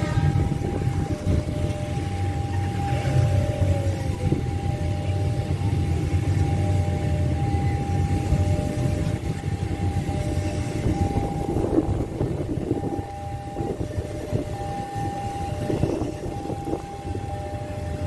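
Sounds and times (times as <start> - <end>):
electric train passing on rails: 0.0 - 18.0
thin steady tones: 0.0 - 18.0.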